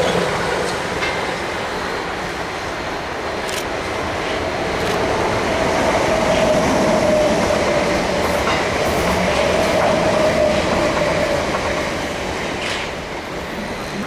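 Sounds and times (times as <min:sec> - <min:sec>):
electric train passing with whine: 0:00.0 - 0:14.0.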